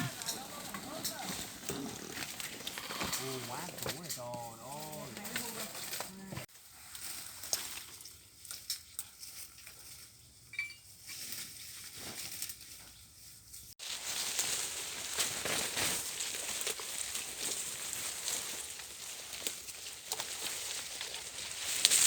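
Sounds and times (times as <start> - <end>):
footsteps crunching on leaves and twigs: 0.0 - 10.2, 11.0 - 22.0.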